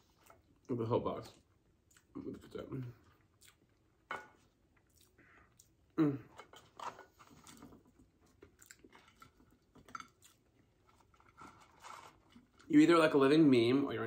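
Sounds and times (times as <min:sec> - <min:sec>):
person chewing food: 0:00.0 - 0:12.7.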